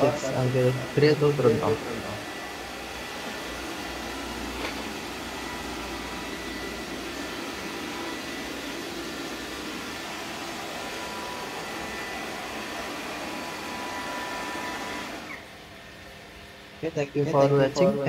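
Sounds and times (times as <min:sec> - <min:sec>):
robot vacuum whirring: 0:00.0 - 0:16.1.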